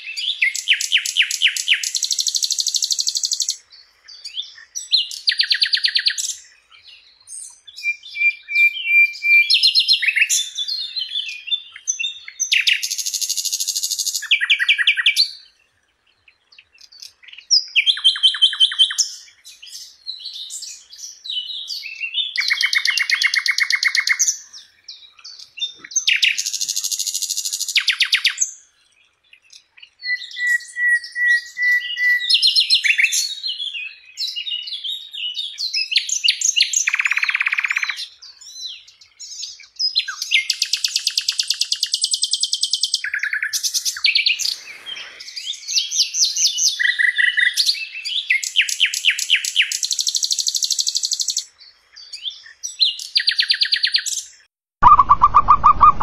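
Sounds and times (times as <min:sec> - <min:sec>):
nightingale whistles: 0:00.0 - 0:06.5, 0:07.2 - 0:15.4, 0:17.3 - 0:24.6, 0:30.0 - 0:51.5, 0:52.1 - 0:56.0
nightingale trills: 0:00.0 - 0:56.0.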